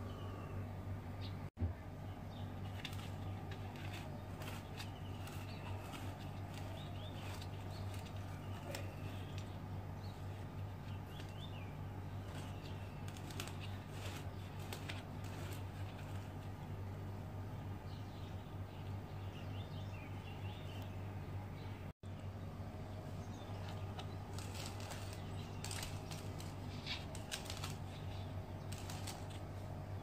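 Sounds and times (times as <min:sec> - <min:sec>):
small birds chirping: 0:00.0 - 0:30.0
steady low hum: 0:00.0 - 0:30.0.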